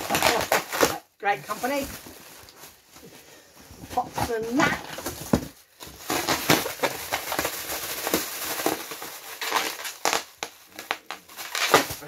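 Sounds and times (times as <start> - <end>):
plastic air cushion crinkling: 0.0 - 12.0.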